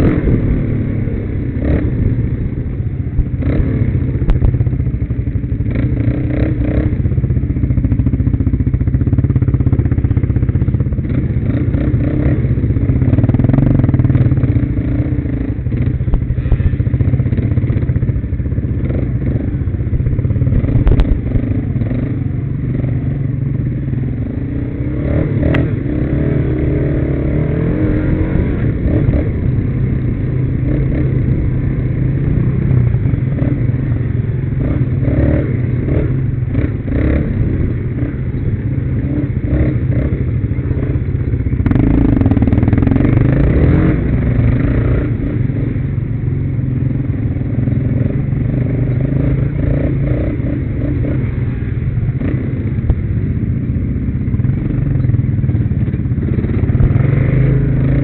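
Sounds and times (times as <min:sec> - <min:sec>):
quad bike engine: 0:00.0 - 0:58.0.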